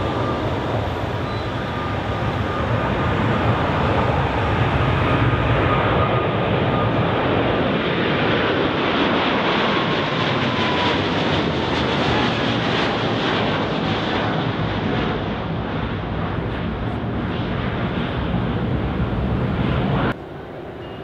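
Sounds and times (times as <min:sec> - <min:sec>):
faint jet whine: 0:00.0 - 0:21.0
jet engine roar: 0:00.0 - 0:21.0.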